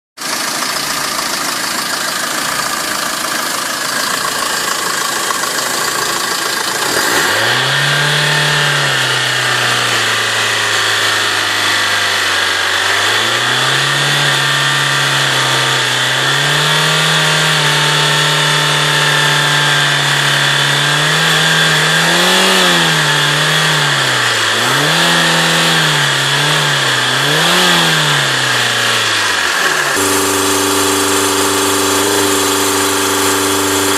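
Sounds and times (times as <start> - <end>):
motor running unsteadily: 0.2 - 33.9.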